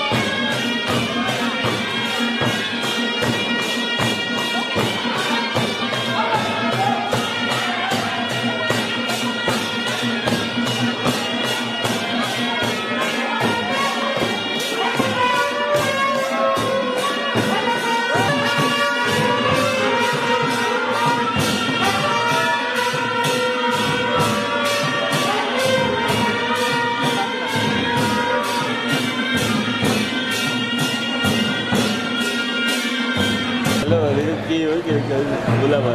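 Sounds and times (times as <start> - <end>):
wailing horn-like lead melody: 0.0 - 33.8.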